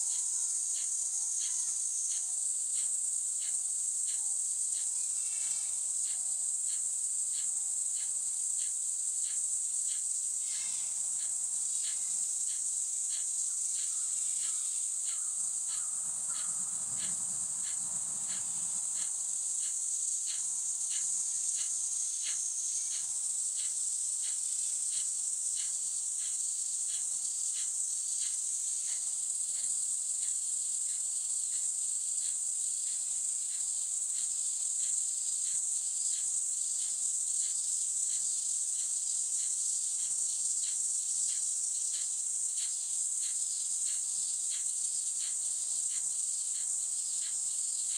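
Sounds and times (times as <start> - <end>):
high-pitched insect drone: 0.0 - 47.9
insect chirping: 0.0 - 47.9.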